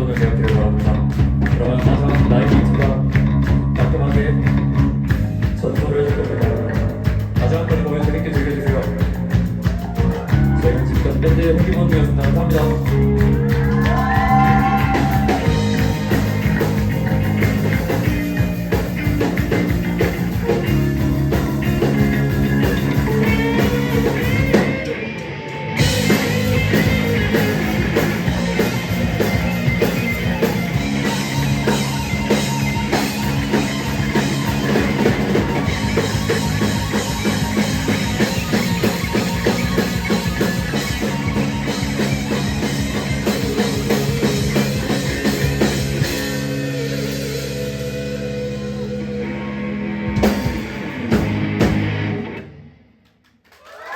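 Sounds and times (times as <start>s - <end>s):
rock band playing: 0.0s - 52.9s.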